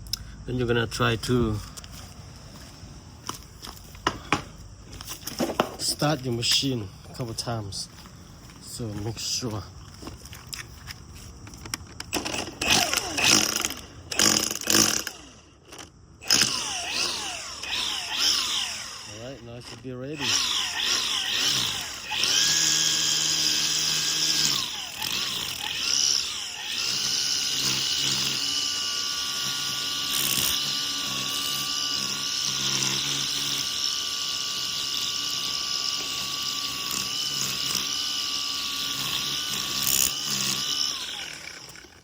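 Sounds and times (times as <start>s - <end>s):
string trimmer motor whining: 0.1s - 42.0s.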